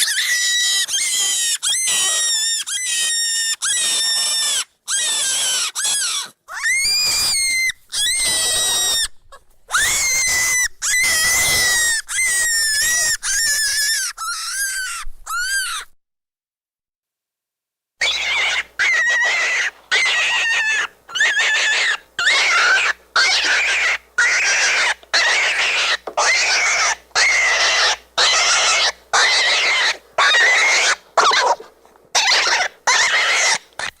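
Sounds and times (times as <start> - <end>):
rabbit screaming: 0.0 - 15.9, 18.0 - 34.0.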